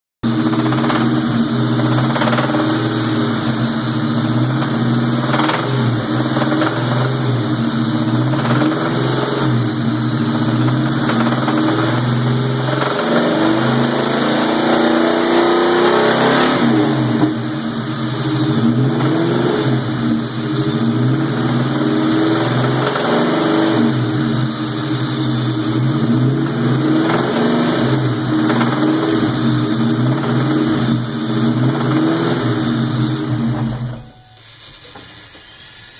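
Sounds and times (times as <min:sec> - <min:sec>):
engine knock: 0:00.2 - 0:15.0, 0:15.8 - 0:34.3
car engine revving: 0:00.2 - 0:34.3.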